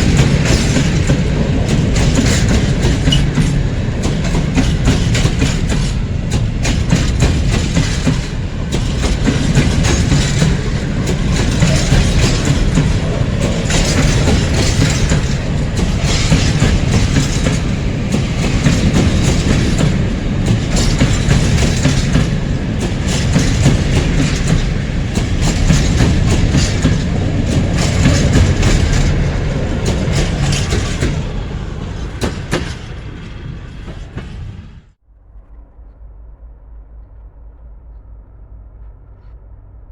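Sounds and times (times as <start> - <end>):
train wheels clicking over rail joints: 0.0 - 34.6
low rumble of freight wagons: 0.0 - 39.9.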